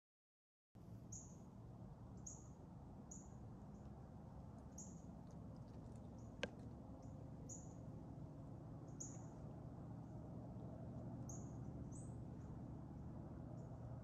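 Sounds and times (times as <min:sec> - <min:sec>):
faint low hum: 0:00.8 - 0:14.0.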